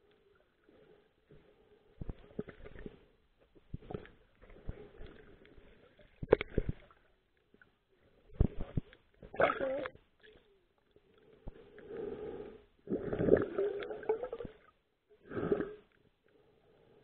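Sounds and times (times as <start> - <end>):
water sloshing and gurgling underwater: 0.0 - 17.0.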